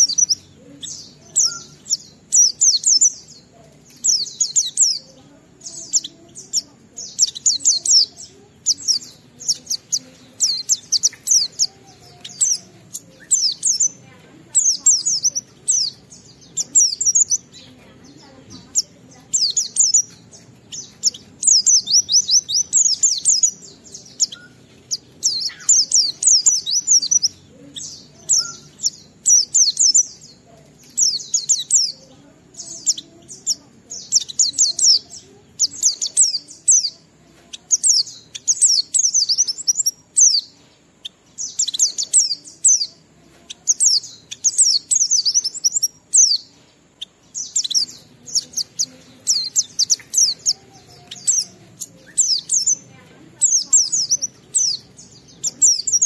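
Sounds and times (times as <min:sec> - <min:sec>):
bird singing high chirps: 0:00.0 - 0:56.0.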